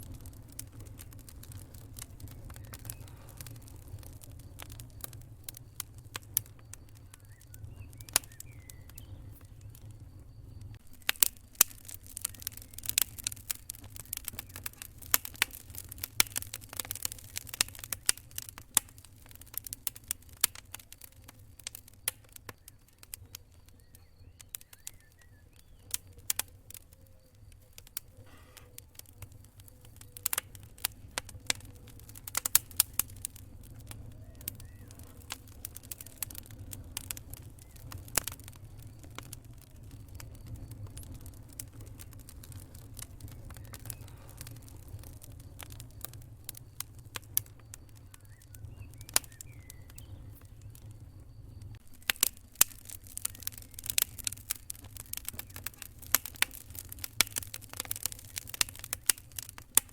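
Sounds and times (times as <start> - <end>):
campfire crackling: 0.0 - 59.9
crickets chirring: 0.0 - 59.9
low rumble of flames: 0.0 - 59.9.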